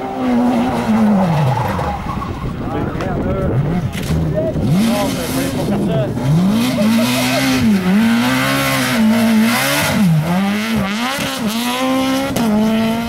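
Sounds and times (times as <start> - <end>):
rally car engine revving hard: 0.0 - 13.0.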